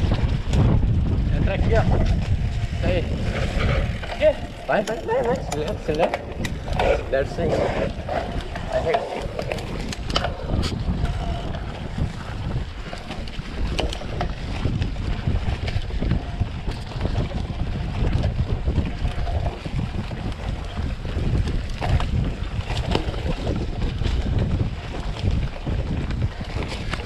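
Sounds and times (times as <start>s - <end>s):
bike rattles and clicks: 0.0s - 27.0s
wind buffeting microphone: 0.0s - 27.0s.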